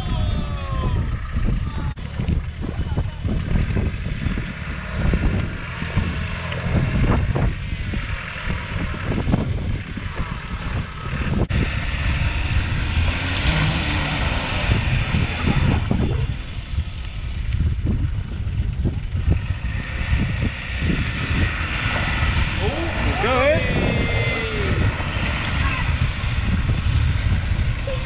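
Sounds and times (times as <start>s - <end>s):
off-road vehicle engines working: 0.0s - 28.0s
wind buffeting microphone: 0.0s - 28.0s.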